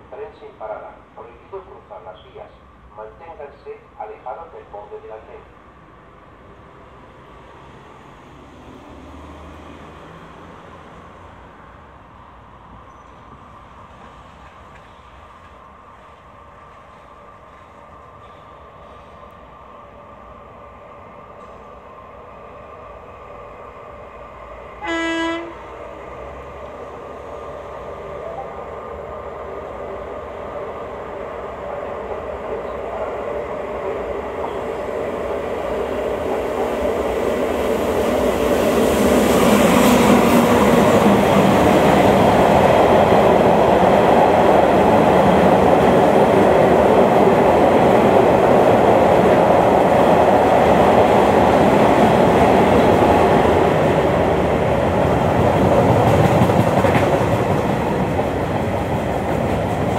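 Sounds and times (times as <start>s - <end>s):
freight train passing: 0.0s - 59.9s
train wheels rolling on rails: 6.9s - 20.0s, 21.0s - 59.9s.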